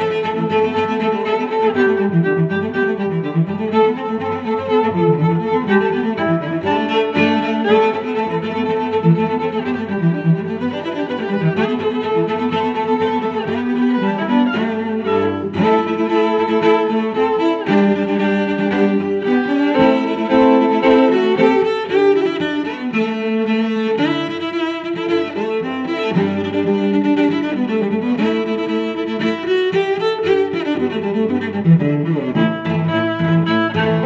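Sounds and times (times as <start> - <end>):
bowed strings music: 0.0 - 34.0.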